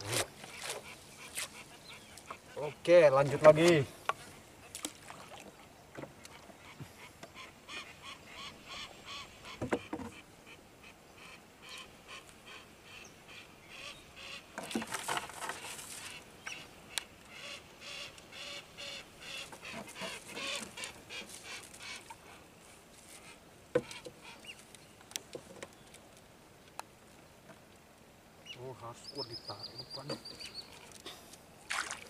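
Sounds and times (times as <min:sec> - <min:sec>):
birds calling: 0:00.0 - 0:26.0, 0:28.4 - 0:31.2.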